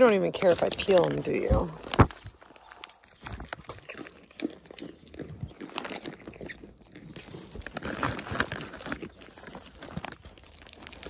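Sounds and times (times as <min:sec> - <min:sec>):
goats chewing peanut shells: 0:00.0 - 0:11.0.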